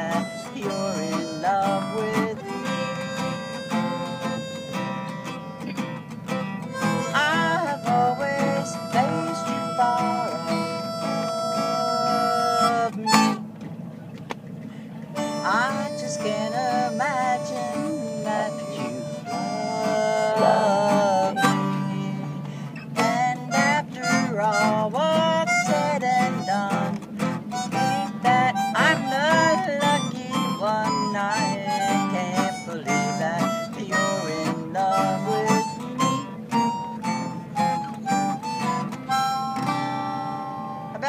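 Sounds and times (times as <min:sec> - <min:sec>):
harmonica melody with bent notes: 0:00.0 - 0:13.6, 0:15.1 - 0:41.0
strummed acoustic guitar: 0:00.0 - 0:41.0.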